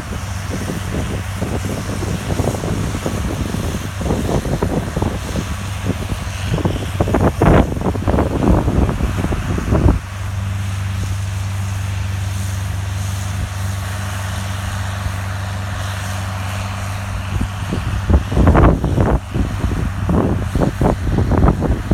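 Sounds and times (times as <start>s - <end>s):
tractor diesel engine drone: 0.0s - 21.9s
wind buffeting microphone: 0.0s - 21.9s.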